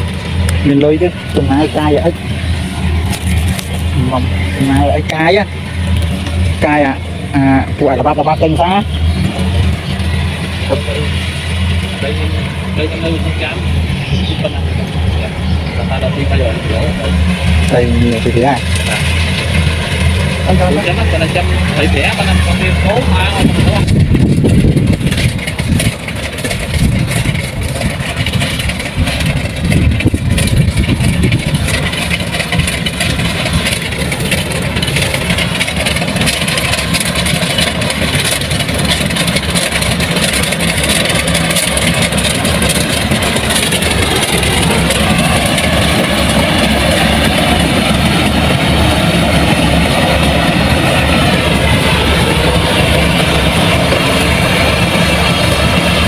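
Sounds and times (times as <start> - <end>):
diesel machine engine running: 0.0 - 56.0.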